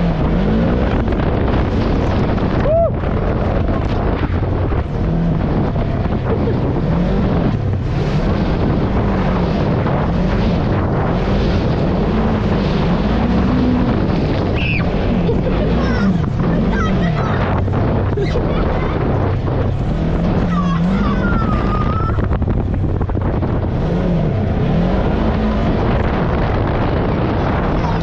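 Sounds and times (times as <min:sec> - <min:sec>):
off-road vehicle engine revving: 0:00.0 - 0:28.0
wind buffeting microphone: 0:00.0 - 0:28.0.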